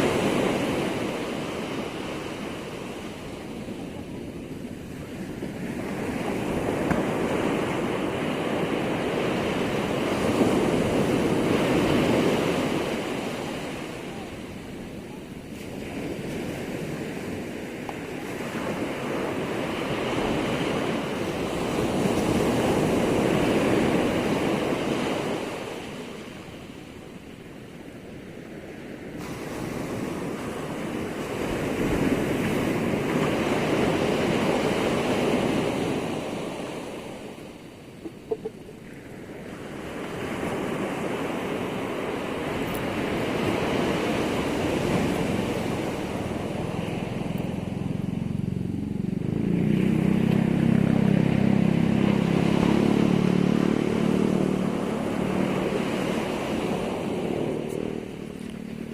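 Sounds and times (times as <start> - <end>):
sea surf breaking: 0.0 - 58.9.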